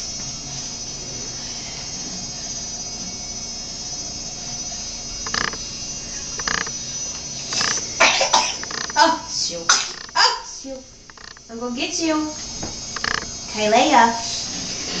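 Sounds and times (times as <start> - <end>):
room tone hiss and hum: 0.0 - 15.0.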